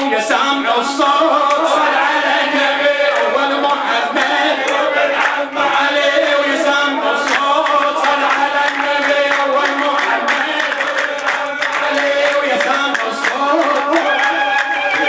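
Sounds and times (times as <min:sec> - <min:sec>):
man singing devotional chant: 0:00.0 - 0:14.4.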